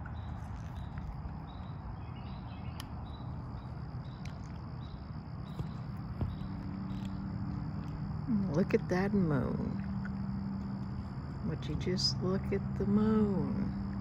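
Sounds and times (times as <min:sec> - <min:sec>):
insects chirping: 0:00.0 - 0:14.0
low background rumble: 0:00.0 - 0:14.0
low steady hum: 0:00.0 - 0:14.0.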